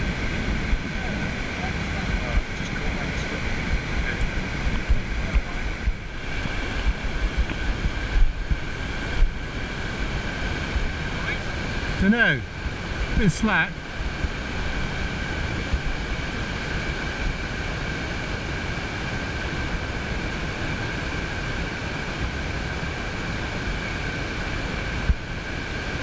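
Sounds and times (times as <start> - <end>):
high two-tone whine: 0.0 - 23.8
surf: 0.0 - 26.0
wind: 0.0 - 26.0.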